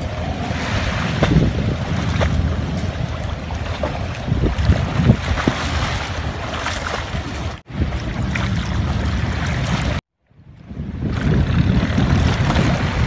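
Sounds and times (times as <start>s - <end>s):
water splashing and lapping: 0.0s - 13.0s
wind buffeting microphone: 0.0s - 13.0s.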